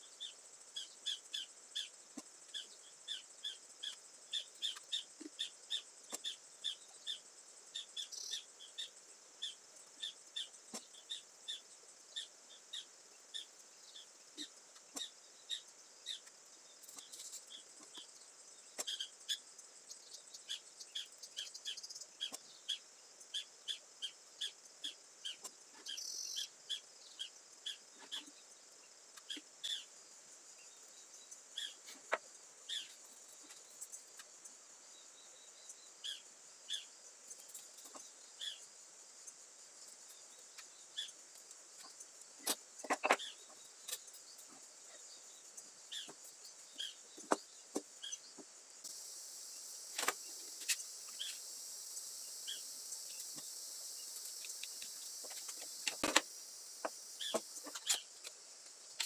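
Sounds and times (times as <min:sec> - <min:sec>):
high insect drone: 0:00.0 - 0:59.0
small birds chirping: 0:00.0 - 0:59.0.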